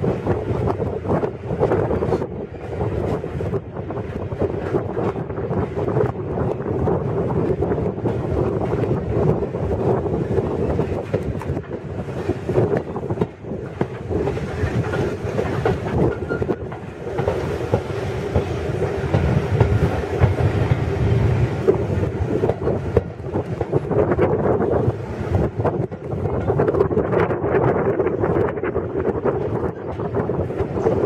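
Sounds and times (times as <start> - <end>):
train rumble and hum: 0.0 - 31.0
train wheels clicking over rail joints: 0.1 - 27.4.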